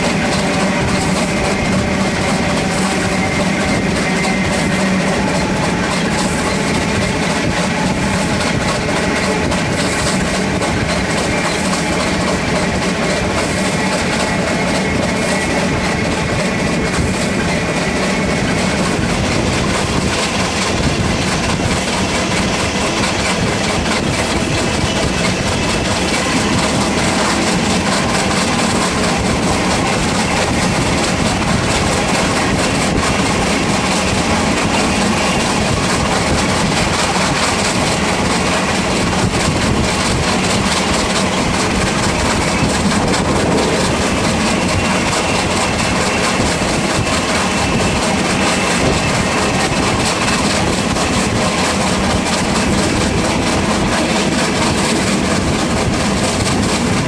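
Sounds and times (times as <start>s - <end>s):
steam locomotive working: 0.0s - 57.0s
train wheels on rails: 0.0s - 57.0s.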